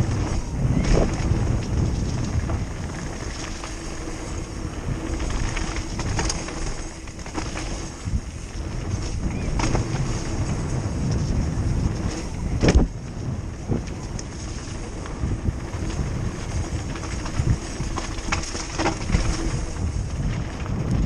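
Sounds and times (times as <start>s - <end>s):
bike knocks and rattles: 0.0s - 21.0s
bike tyres rolling on dirt: 0.0s - 21.0s
wind buffeting camera: 0.0s - 21.0s.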